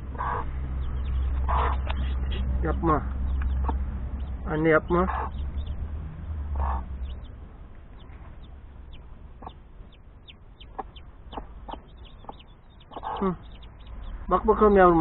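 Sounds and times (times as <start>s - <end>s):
hen clucking: 0.0s - 5.8s, 6.5s - 15.0s
chicks peeping: 0.0s - 15.0s.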